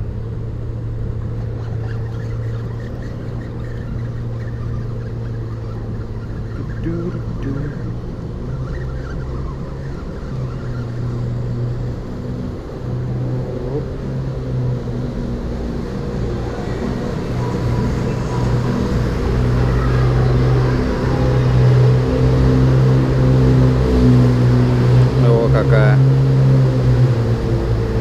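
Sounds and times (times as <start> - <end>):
low engine hum: 0.0 - 28.0.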